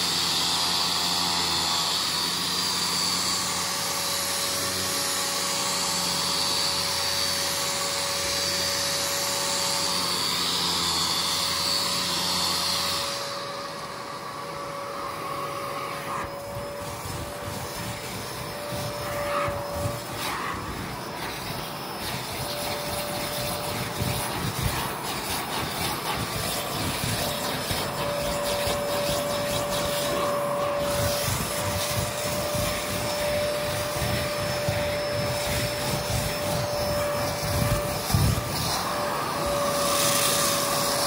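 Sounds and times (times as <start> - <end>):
vacuum motor running: 0.0 - 41.0
vacuum whine: 0.0 - 41.0.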